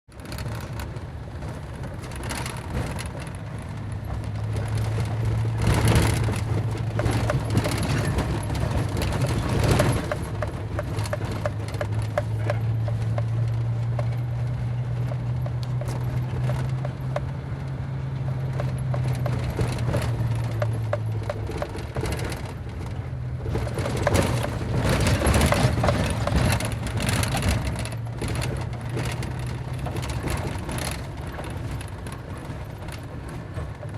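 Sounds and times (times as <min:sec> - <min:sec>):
vehicle engine humming: 0:00.1 - 0:33.9
rattling and knocking: 0:00.2 - 0:33.9.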